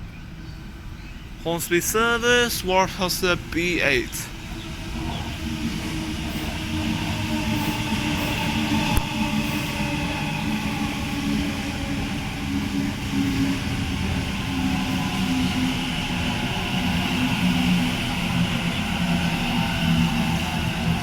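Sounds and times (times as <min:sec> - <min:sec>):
electric train humming: 0:00.0 - 0:21.0.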